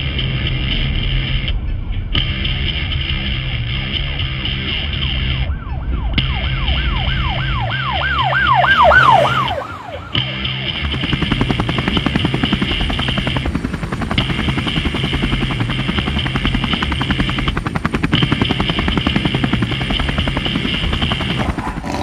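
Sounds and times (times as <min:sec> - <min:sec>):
helicopter rotor chopping: 0:00.0 - 0:22.0
high steady whine: 0:00.0 - 0:22.0.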